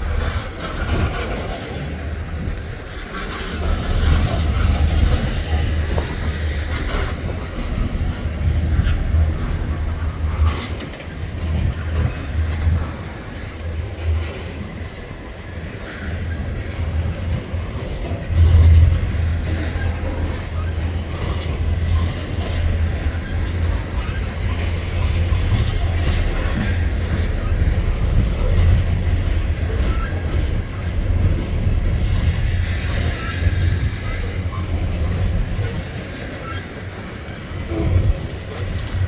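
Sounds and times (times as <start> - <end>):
faint train clacks: 0.0 - 39.0
freight train rumbling past: 0.0 - 39.0.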